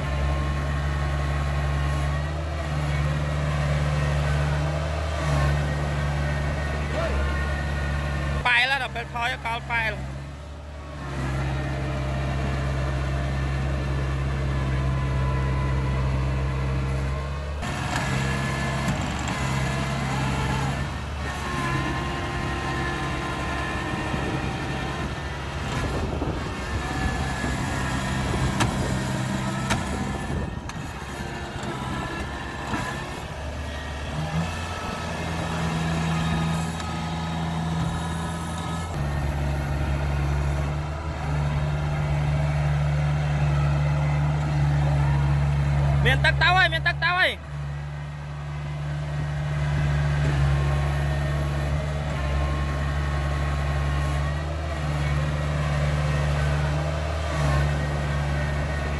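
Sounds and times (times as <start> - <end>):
harvester engine running: 0.0 - 58.9.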